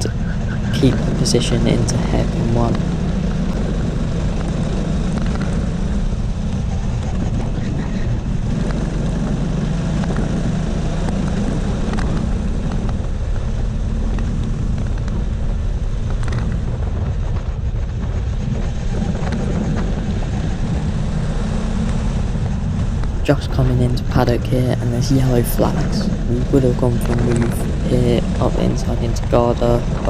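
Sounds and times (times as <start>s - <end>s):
go-kart engine low rumble: 0.0s - 30.0s
road noise: 0.0s - 30.0s.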